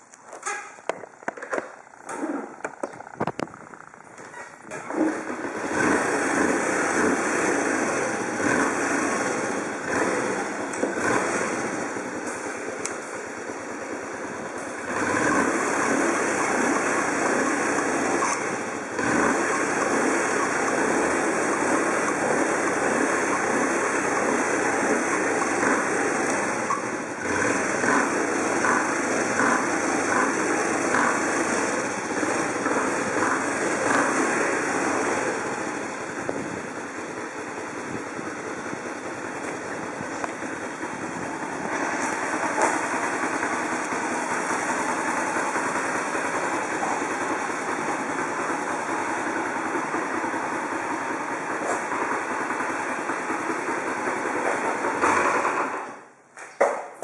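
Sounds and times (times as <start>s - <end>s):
motorcycle engine idling: 0.0s - 56.2s.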